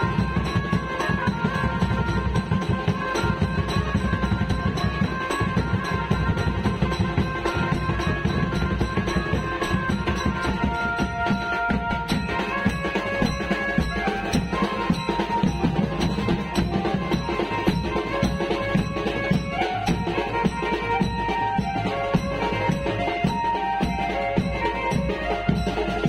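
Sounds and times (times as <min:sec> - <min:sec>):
band melody: 0:00.0 - 0:26.0
drums beaten with sticks: 0:00.0 - 0:26.0.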